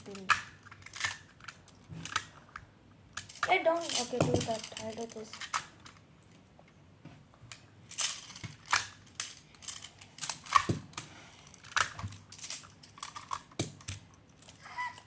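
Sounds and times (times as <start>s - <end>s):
plastic blocks clicking together: 0.0s - 2.6s, 3.2s - 6.0s, 7.5s - 15.0s.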